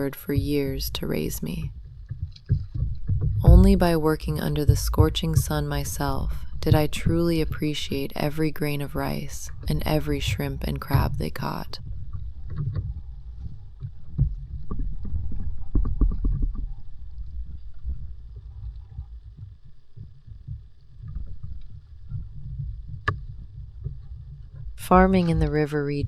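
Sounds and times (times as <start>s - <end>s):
water sloshing and splashing: 0.0s - 26.0s
wind rumble on microphone: 0.3s - 26.0s.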